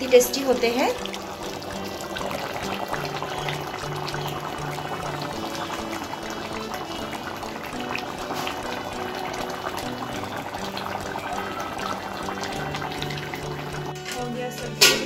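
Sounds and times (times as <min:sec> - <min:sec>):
curry bubbling in a wok: 0:00.0 - 0:14.0
soft background music: 0:00.0 - 0:15.0.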